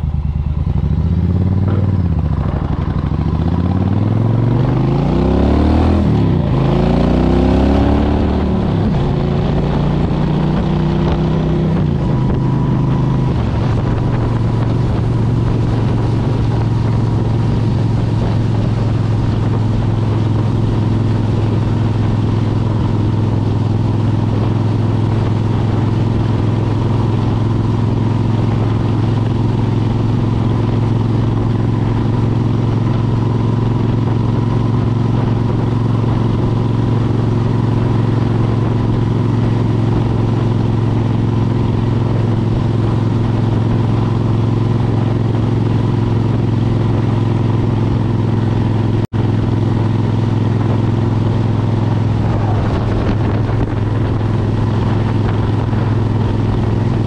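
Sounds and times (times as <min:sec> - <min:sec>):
motorcycle engine: 0:00.0 - 0:57.0
wind rushing: 0:00.7 - 0:22.2, 0:28.5 - 0:57.0.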